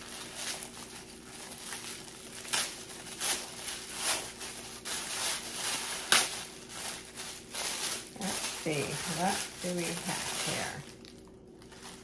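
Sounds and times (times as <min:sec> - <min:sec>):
wrapping material crinkling: 0:00.0 - 0:12.0.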